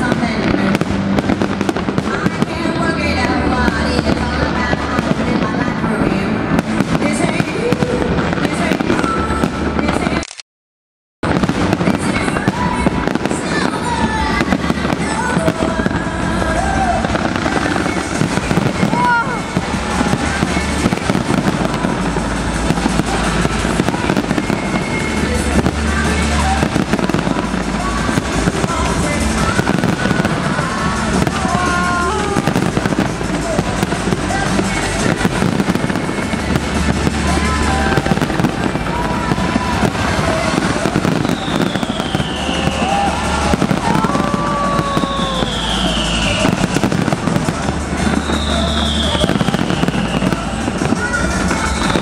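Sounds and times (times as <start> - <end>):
music playing: 0.0 - 10.2, 11.2 - 52.0
fireworks bangs and crackles: 0.0 - 10.3, 11.2 - 52.0.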